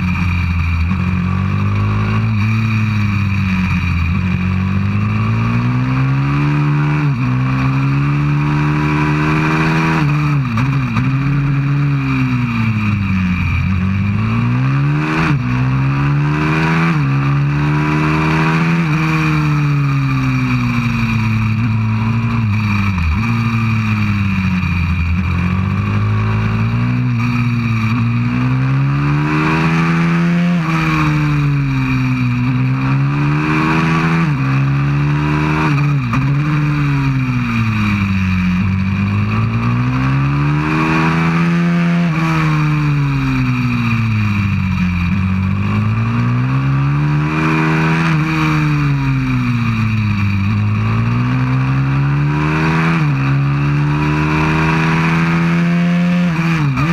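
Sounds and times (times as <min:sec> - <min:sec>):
motorbike engine revving: 0:00.0 - 0:56.9.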